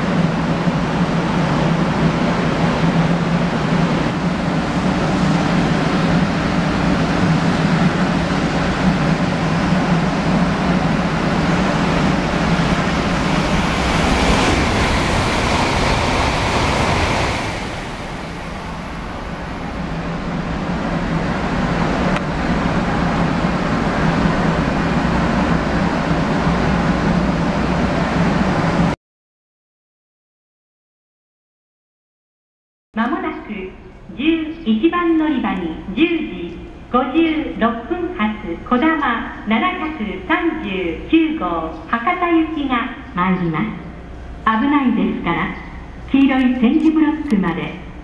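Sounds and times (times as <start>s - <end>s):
high-speed train passing: 0.0s - 29.0s, 33.0s - 48.0s.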